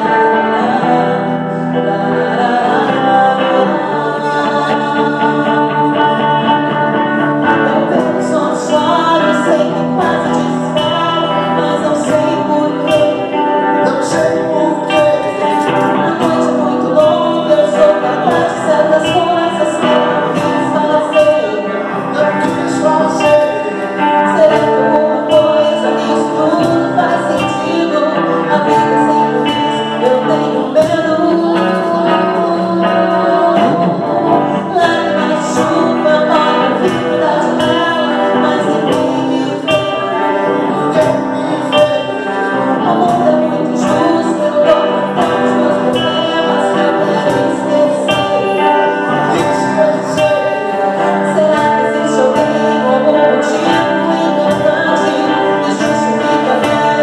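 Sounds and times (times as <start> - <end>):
cajon beat: 0.0 - 57.0
electric guitar: 0.0 - 57.0
man singing: 0.0 - 57.0
woman singing lead: 0.0 - 57.0.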